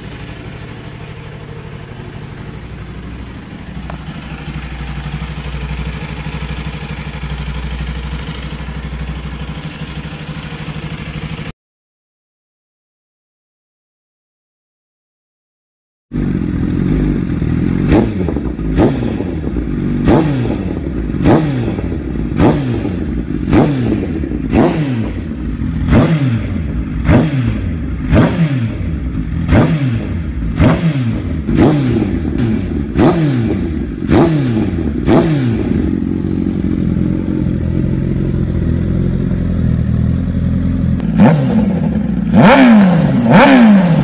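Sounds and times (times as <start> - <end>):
motorcycle engine revving and idling: 0.0 - 11.6, 16.1 - 44.0.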